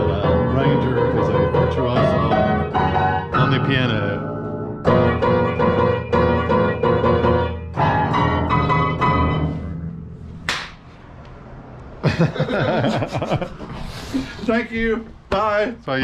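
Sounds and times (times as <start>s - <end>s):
piano chords: 0.0s - 13.6s.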